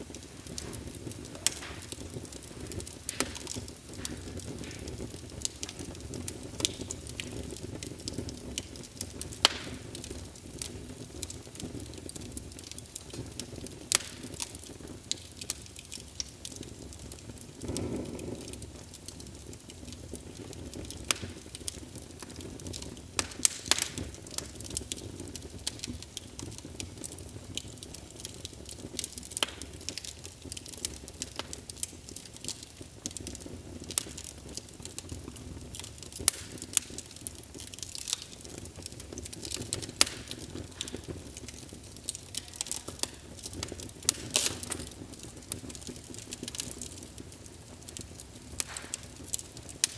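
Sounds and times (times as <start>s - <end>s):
flames rumbling: 0.0s - 49.9s
wood fire crackling and popping: 0.0s - 49.9s.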